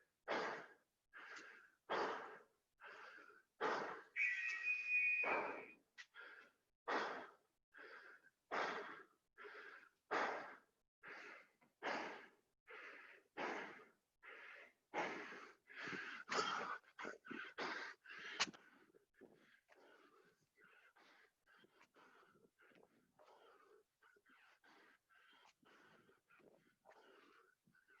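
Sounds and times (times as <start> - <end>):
man breathing hard: 0.2 - 4.2, 5.3 - 28.0.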